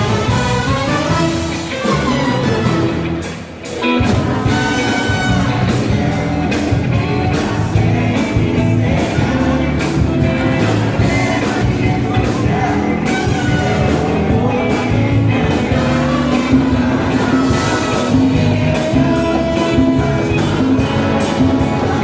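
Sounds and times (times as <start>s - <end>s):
bass: 0.0s - 22.0s
live dance band playing: 0.0s - 22.0s
steady drum beat: 0.0s - 22.0s
person singing: 3.7s - 22.0s.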